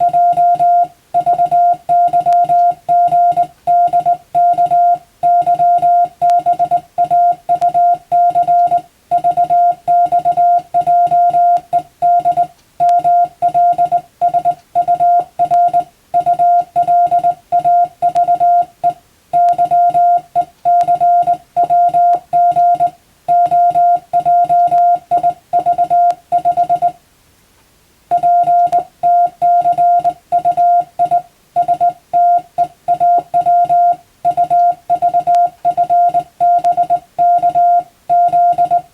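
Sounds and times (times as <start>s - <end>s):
morse code tone: 0.0s - 27.0s, 28.1s - 38.9s.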